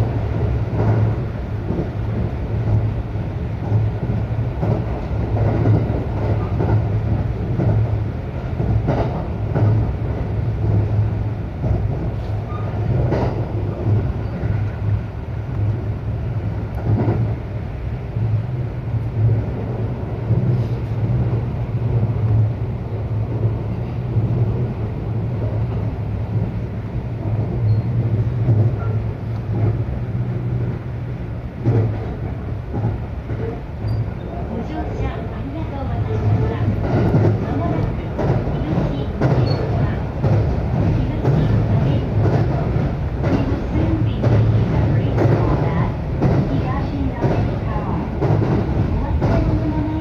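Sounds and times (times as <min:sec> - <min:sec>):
train wheels rumbling: 0:00.0 - 0:50.0.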